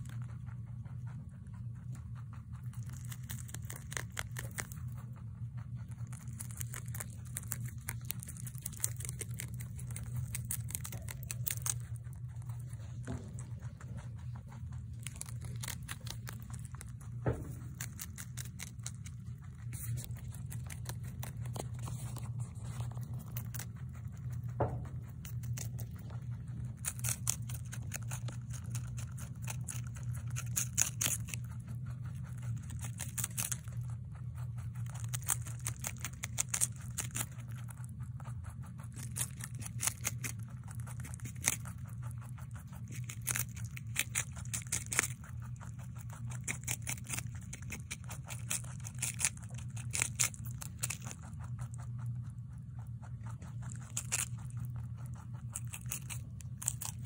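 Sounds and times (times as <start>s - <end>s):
rabbit crunching lettuce: 0.0s - 57.0s
steady low hum: 0.0s - 57.0s.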